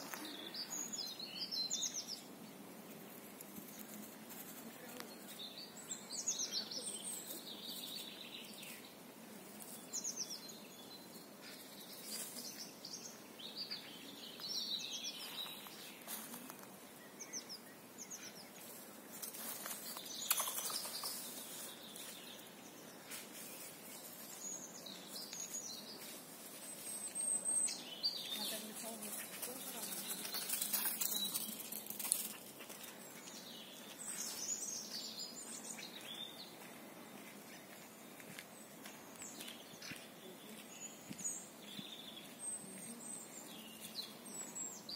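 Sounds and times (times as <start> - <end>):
songbirds singing: 0.0 - 44.9.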